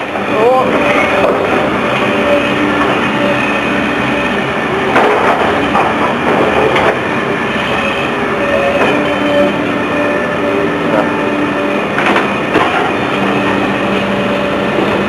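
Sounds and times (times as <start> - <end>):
demolition machinery droning: 0.0 - 15.0.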